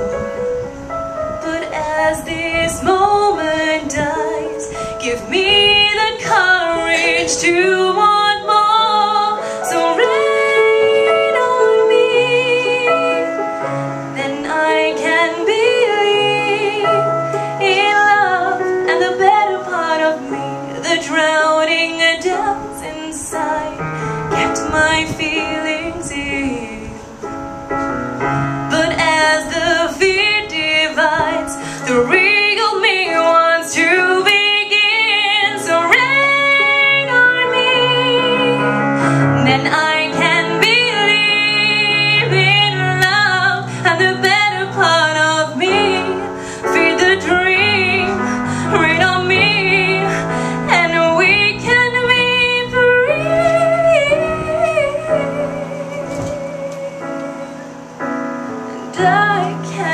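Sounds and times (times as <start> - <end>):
piano accompaniment: 0.0 - 59.9
woman singing a ballad: 1.2 - 58.2, 58.8 - 59.9.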